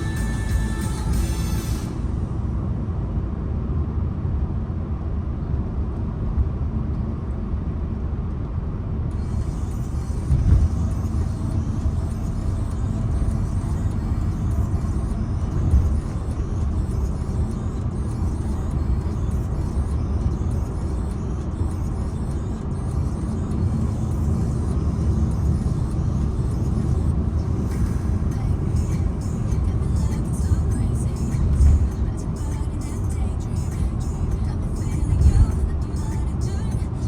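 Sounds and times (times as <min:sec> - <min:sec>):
car driving rumble: 0:00.0 - 0:37.0.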